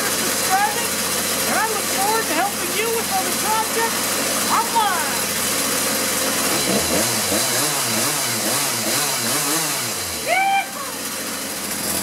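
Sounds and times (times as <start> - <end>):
chainsaw engine idling: 0.0 - 12.0.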